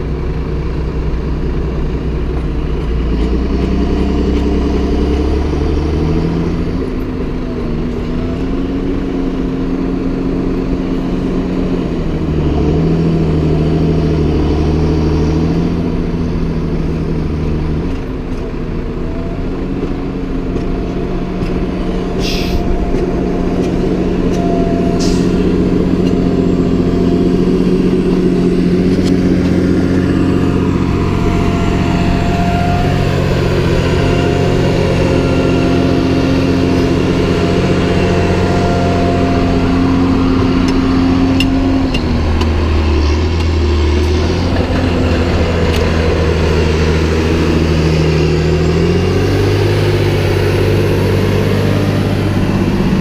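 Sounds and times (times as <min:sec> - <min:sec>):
tractor diesel engines droning: 0:00.0 - 0:53.0.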